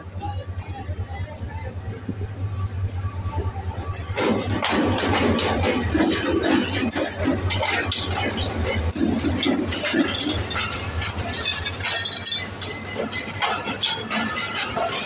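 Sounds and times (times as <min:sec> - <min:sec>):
train coaches clanking over rails: 0:00.0 - 0:15.0.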